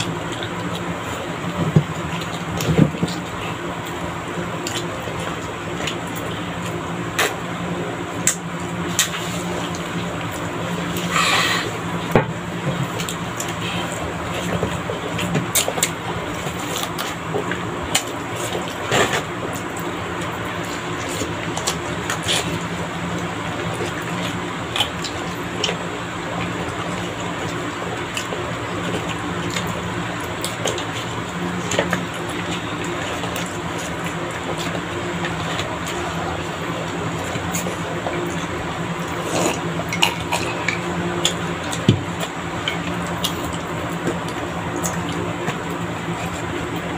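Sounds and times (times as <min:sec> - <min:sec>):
chewing: 0:00.0 - 0:07.5, 0:08.1 - 0:12.0, 0:12.7 - 0:46.9
steady background hum: 0:00.0 - 0:46.9.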